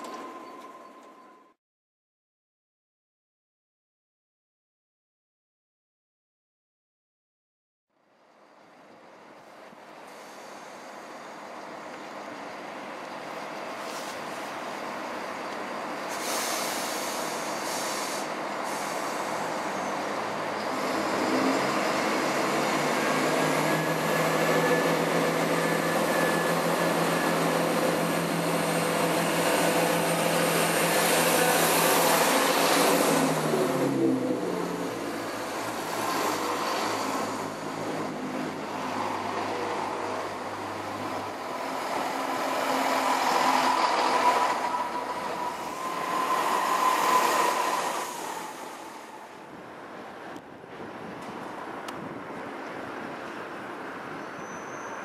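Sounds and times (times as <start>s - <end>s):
diesel train engine hum: 8.2s - 54.2s.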